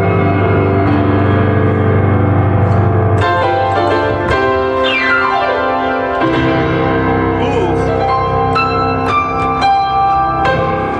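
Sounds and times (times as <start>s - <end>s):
grand piano: 0.0s - 10.9s.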